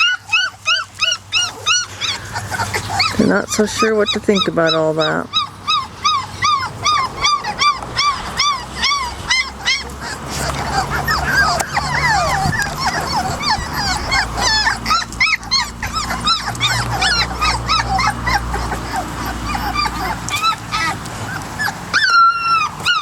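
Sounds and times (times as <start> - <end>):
puppies whimpering and crying: 0.0 - 23.0.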